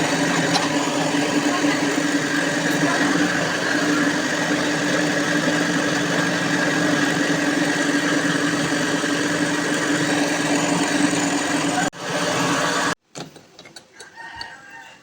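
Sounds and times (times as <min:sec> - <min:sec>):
workshop machine humming and whining: 0:00.0 - 0:13.0.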